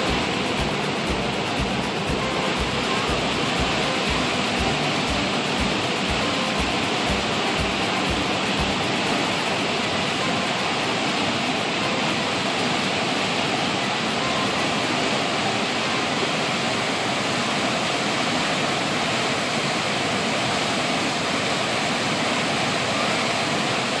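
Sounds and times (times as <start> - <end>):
water rushing in whitewater: 0.0 - 24.0.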